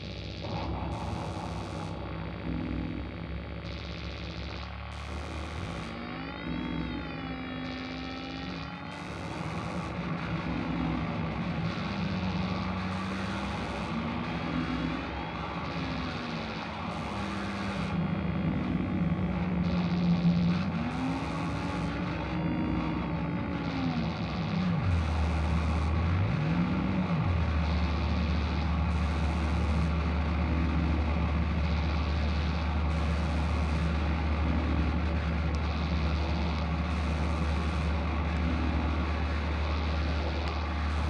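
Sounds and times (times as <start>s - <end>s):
distorted noise drone: 0.0s - 41.0s.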